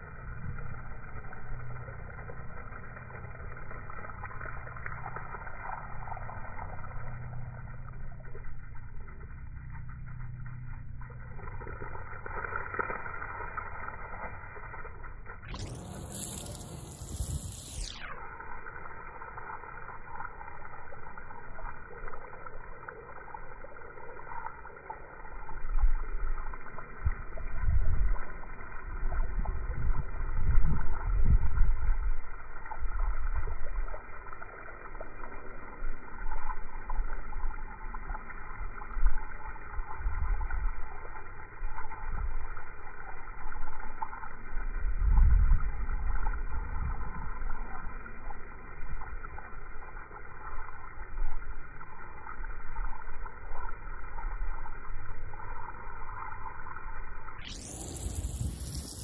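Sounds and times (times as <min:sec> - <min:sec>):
slowed water spray on turf: 0:00.0 - 0:59.0.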